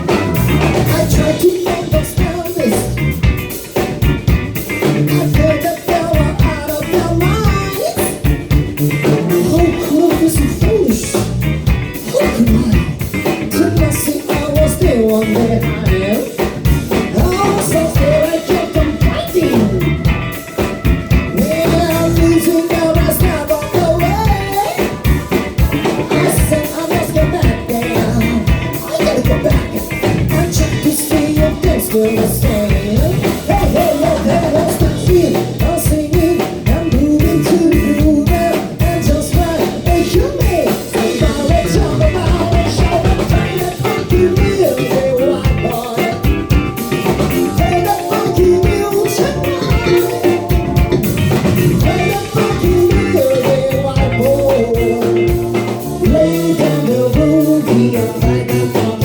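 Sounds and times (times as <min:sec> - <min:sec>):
live pop-rock band: 0:00.0 - 0:59.0.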